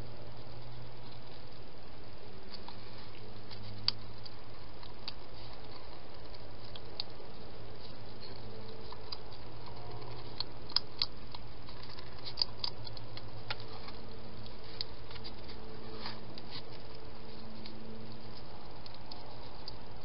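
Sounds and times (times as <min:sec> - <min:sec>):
steady low hum: 0:00.0 - 0:20.0
hedgehog eating crunching clicks: 0:02.4 - 0:20.0.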